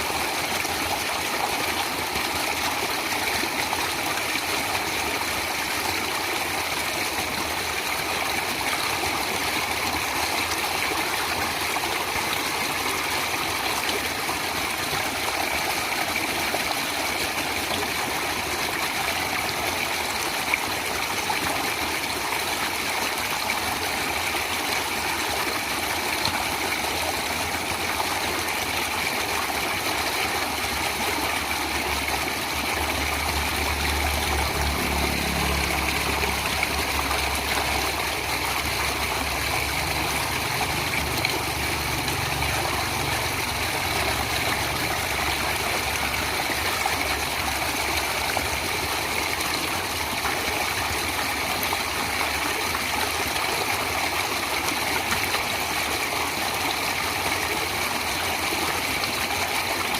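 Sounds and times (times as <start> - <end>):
stream of running water: 0.0 - 59.9.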